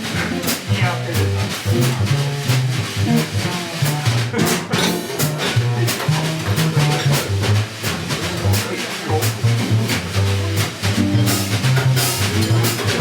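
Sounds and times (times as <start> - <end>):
bass line: 0.0 - 13.0
drum kit on cymbals and drums: 0.0 - 13.0
horn melody: 0.0 - 13.0.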